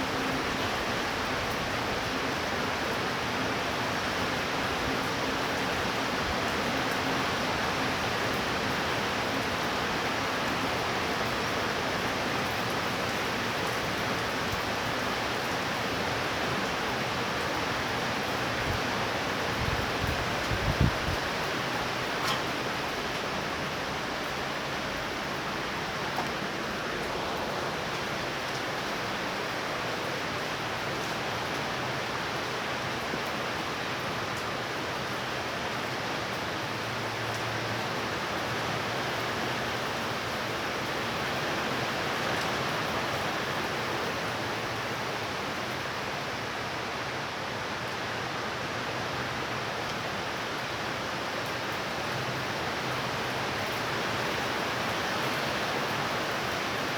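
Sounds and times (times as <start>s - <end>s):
heavy rain downpour: 0.0s - 56.9s.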